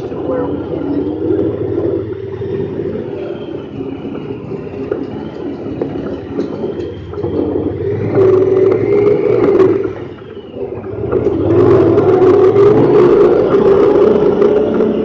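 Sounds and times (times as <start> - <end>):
vehicle engine under throttle: 0.0 - 15.0.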